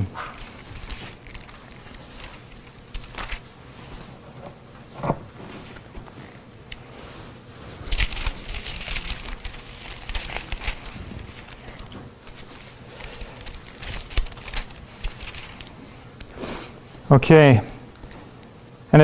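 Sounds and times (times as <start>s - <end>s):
paper pages rustling: 0.3s - 16.4s.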